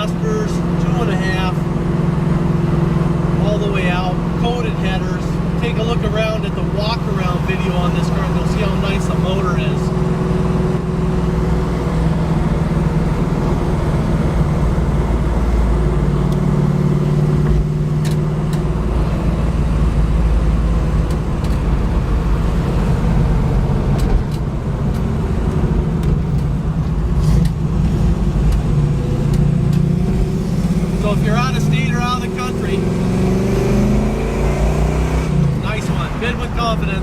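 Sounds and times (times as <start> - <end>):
car engine running: 0.0 - 37.0.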